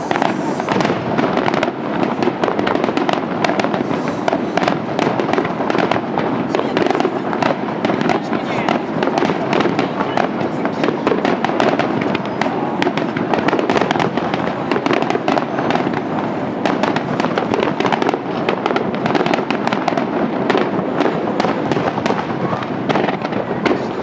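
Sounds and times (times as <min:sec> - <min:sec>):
fireworks bursts and crackles: 0:00.0 - 0:24.0.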